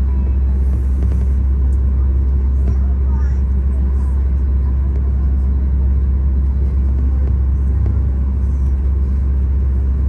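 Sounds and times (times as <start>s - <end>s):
aircraft cabin low drone: 0.0s - 10.0s.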